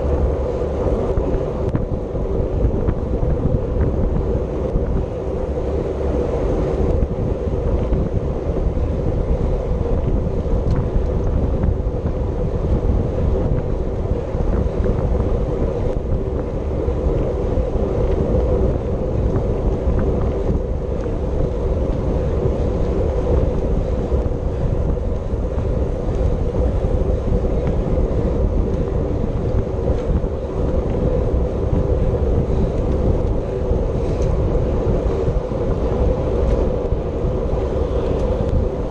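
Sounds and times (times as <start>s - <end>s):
steady hum: 0.0s - 38.9s
wind rushing over microphone: 0.0s - 38.9s.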